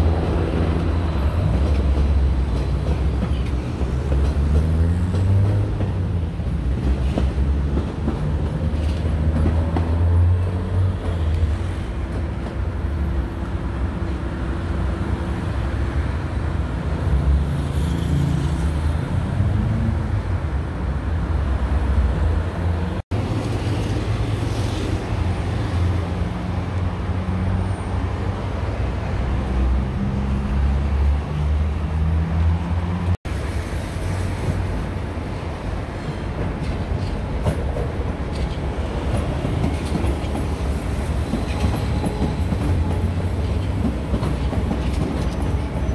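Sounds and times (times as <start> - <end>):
electric train on tracks: 0.0 - 45.9
road traffic rumble: 0.0 - 45.9.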